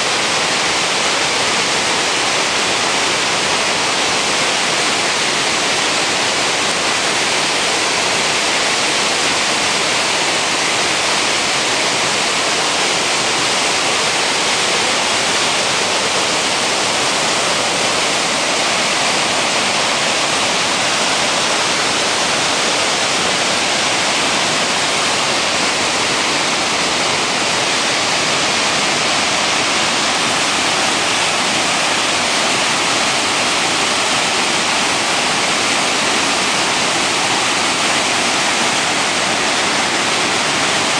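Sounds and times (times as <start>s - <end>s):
floodwater rushing through spillway: 0.0s - 40.9s.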